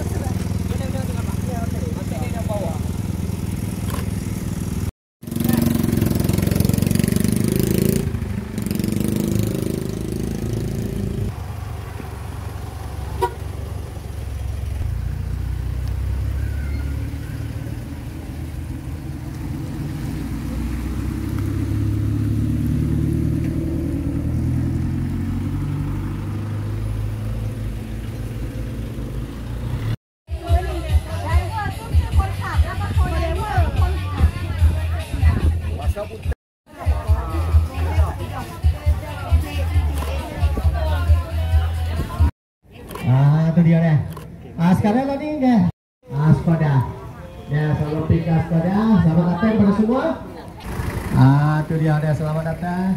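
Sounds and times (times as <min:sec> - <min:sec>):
off-road vehicle engines droning: 0:00.0 - 0:52.9.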